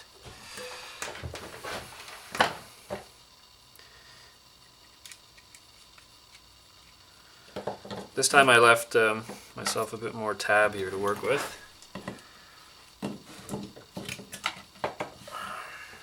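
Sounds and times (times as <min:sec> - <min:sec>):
faint room hiss: 0:00.0 - 0:16.0.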